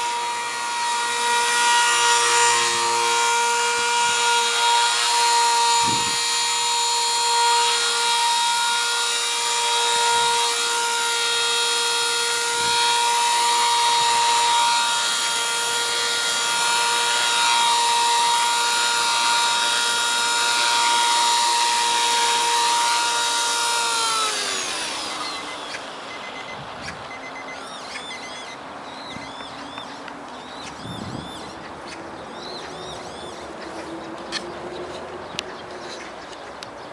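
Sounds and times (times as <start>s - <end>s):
motor and gear whine: 0.0s - 31.6s
rotor blades rushing: 0.0s - 34.5s.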